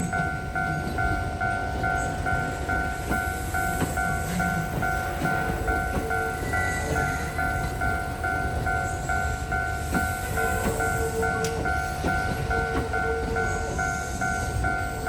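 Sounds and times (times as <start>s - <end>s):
electric train rumbling past: 0.0s - 15.0s
level crossing warning bell: 0.0s - 15.0s.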